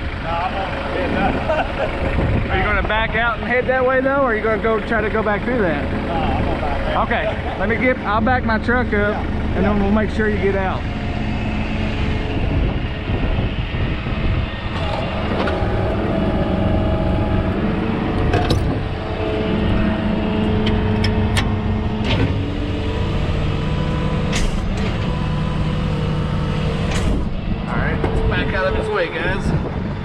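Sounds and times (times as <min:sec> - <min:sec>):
tow truck engine running: 0:00.0 - 0:30.0.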